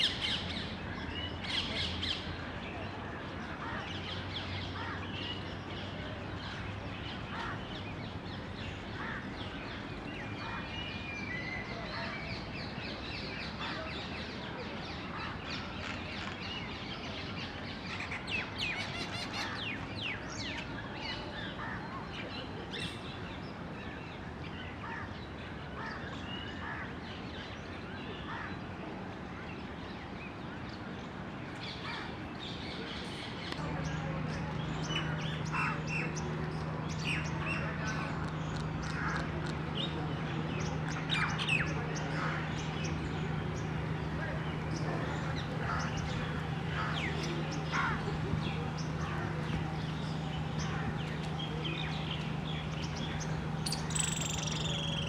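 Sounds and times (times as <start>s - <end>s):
birds and squirrels chirping: 0.0s - 55.0s.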